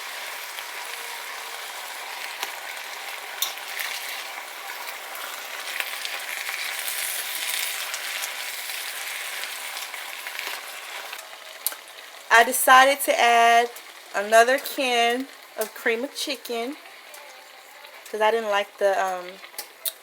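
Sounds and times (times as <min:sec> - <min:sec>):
food sizzling in a pot: 0:00.0 - 0:20.0.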